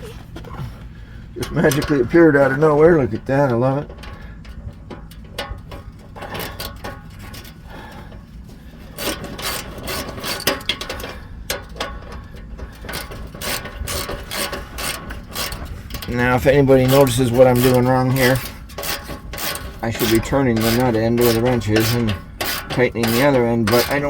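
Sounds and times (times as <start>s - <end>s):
wrench clicking and scraping metal: 1.4s - 24.0s.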